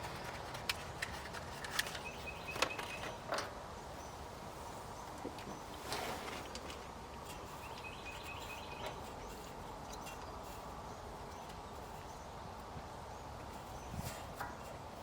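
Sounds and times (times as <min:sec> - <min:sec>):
birds chirping: 0:01.6 - 0:14.7.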